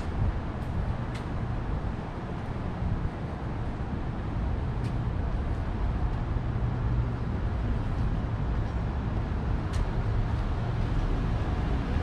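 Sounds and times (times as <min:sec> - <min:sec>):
car traffic rumble: 0:00.0 - 0:12.0.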